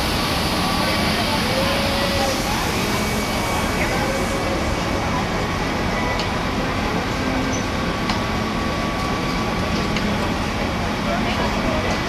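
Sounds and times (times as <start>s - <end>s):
faint voices: 0.5s - 8.4s, 9.4s - 12.0s.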